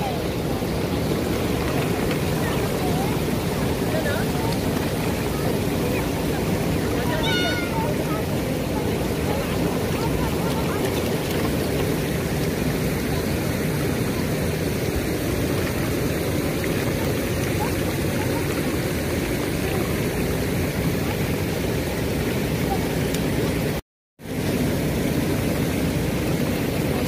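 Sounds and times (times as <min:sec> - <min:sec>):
fish splashing in shallow water: 0:00.0 - 0:23.7.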